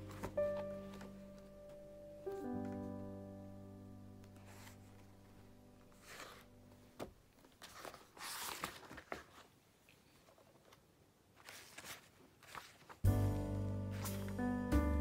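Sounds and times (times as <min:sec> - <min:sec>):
paper pages rustling: 0:00.0 - 0:01.8, 0:04.2 - 0:14.5.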